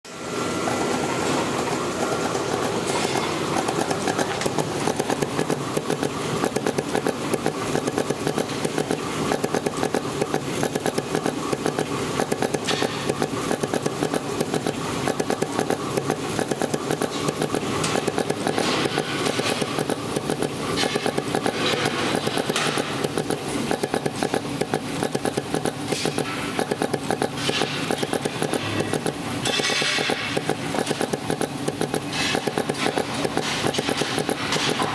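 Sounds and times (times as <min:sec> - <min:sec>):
dispensing machine pulsing: 0:00.0 - 0:34.9.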